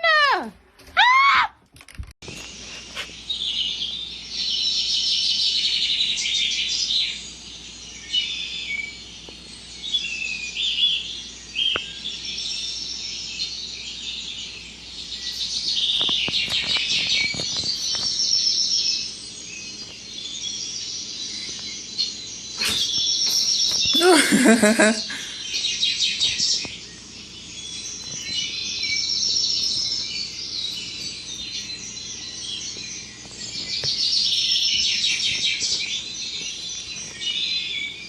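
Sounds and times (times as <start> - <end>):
small birds chirping: 2.2 - 38.0.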